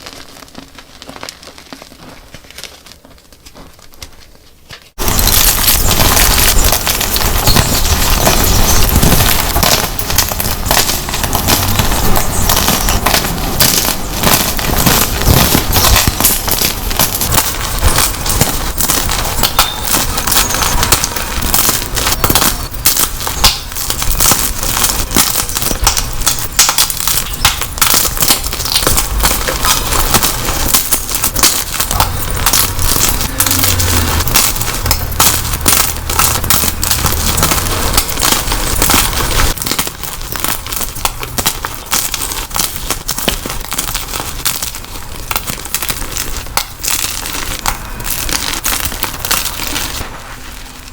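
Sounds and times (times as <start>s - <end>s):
chalk blocks crunching: 0.0s - 50.9s.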